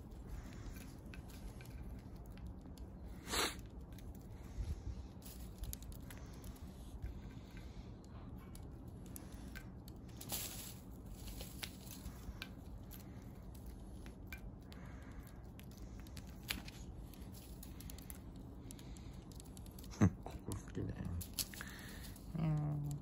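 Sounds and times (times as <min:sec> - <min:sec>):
low steady background hiss: 0:00.0 - 0:23.0.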